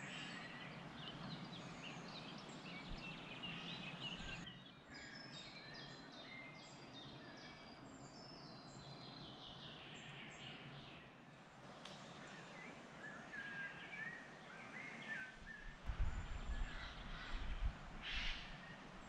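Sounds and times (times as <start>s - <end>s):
birds chirping: 0.0s - 11.1s, 11.9s - 19.0s.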